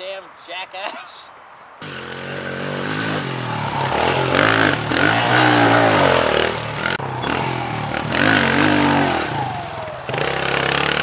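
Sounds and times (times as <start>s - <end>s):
motorbike engine revving: 1.8s - 11.0s.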